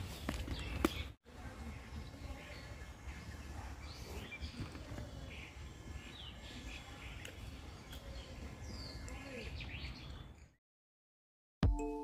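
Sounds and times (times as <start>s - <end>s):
birds chirping: 0.0s - 10.6s.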